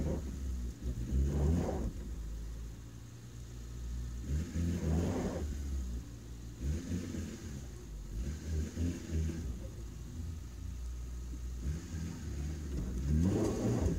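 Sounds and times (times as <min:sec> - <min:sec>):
car engine revving at low speed: 0:00.0 - 0:13.9.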